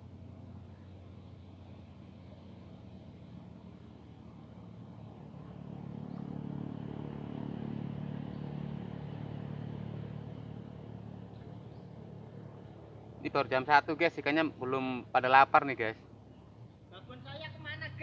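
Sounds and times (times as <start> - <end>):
motor vehicle engine passing: 0.0 - 18.0.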